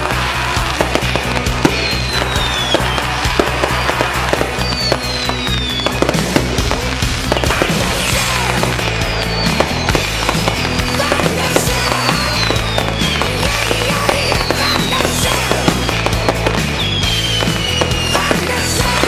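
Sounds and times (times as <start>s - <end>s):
falling firework whistles: 0.0s - 19.0s
fireworks popping and crackling: 0.0s - 19.0s
music with low bass: 0.0s - 19.0s.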